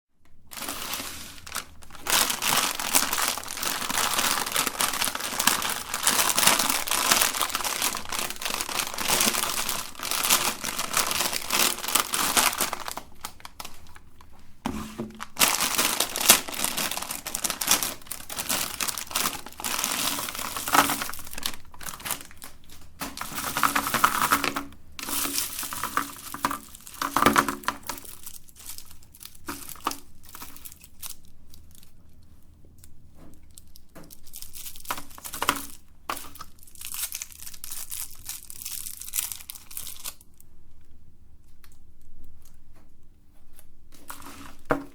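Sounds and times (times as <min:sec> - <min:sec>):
plastic packaging crinkling: 0:00.4 - 0:42.7, 0:43.5 - 0:44.9.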